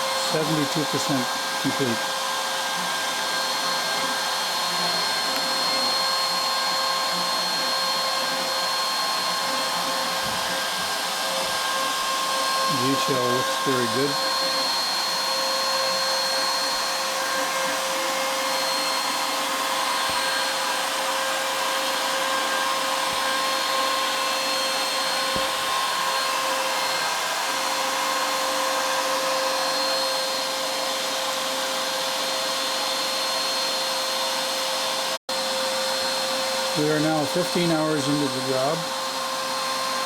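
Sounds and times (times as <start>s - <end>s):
bit cutting wood: 0.0s - 34.9s, 36.0s - 40.0s
router spindle whining: 0.0s - 40.0s.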